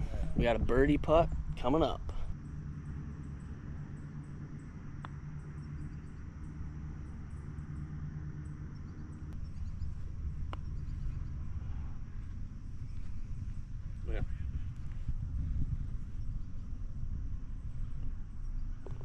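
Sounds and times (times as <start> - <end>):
low hum: 0.0 - 19.0
steady low rumble: 0.0 - 19.0
insects chirping: 2.3 - 19.0.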